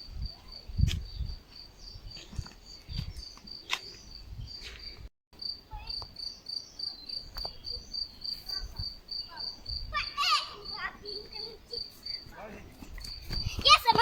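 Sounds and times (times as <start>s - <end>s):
cricket chirping: 0.0s - 13.8s.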